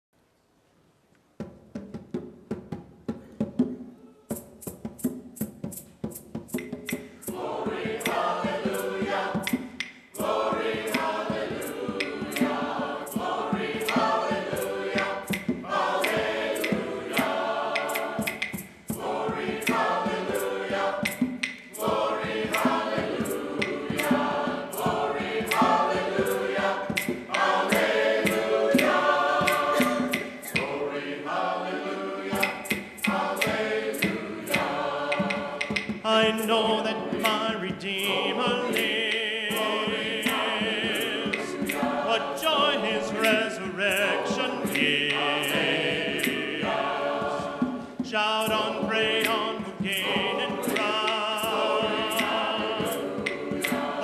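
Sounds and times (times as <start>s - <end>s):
crisp steady beat: 1.4s - 54.0s
choir singing a cappella: 6.3s - 54.0s.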